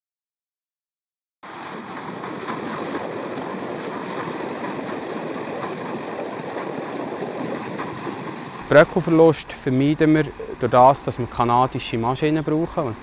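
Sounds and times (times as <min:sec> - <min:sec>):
tractor mower rushing noise: 0:01.4 - 0:13.0.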